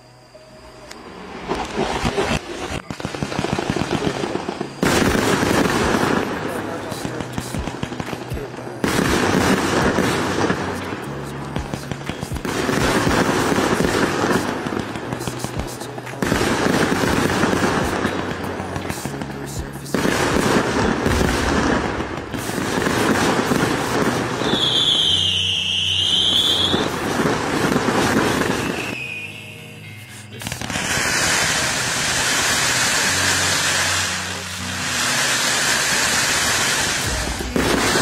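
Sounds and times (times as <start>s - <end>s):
high firework whistle: 0.0s - 18.7s, 19.9s - 38.0s
music: 0.0s - 38.0s
fireworks bursting and crackling: 0.9s - 38.0s.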